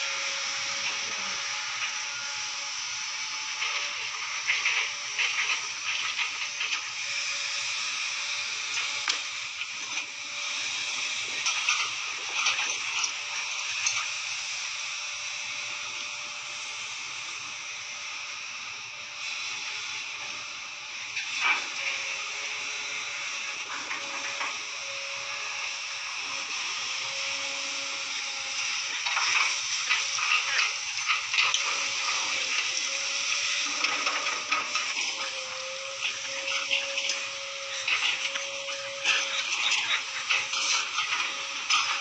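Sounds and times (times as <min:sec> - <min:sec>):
excavator engine and hydraulics hiss: 0:00.0 - 0:42.0.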